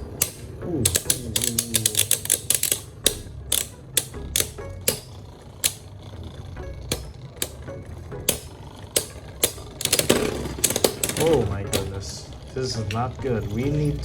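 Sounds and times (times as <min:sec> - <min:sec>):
spinning tops clicking: 0:00.0 - 0:13.6
spinning tops whirring: 0:00.0 - 0:14.0.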